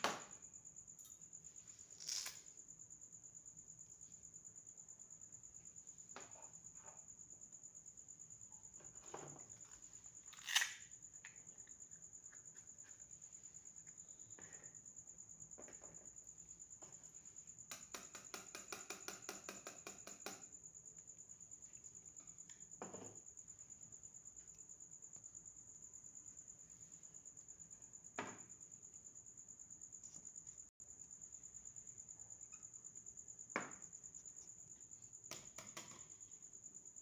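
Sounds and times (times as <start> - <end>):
high cricket-like chirping: 0.0 - 37.0.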